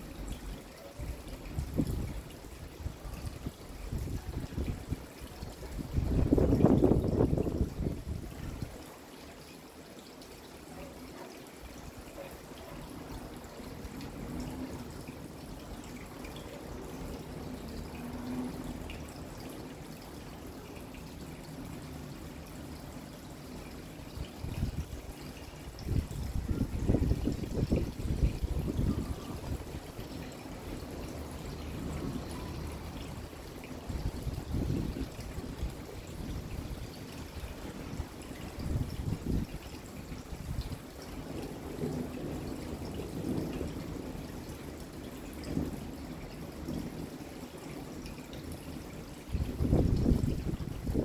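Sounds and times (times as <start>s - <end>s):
rain with pouring water: 0.0s - 51.0s.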